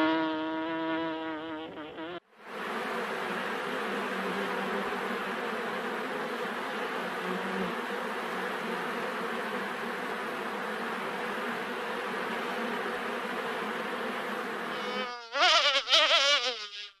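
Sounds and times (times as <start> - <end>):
bee flying close: 0.0 - 17.0
honeybee colony buzzing: 0.0 - 17.0.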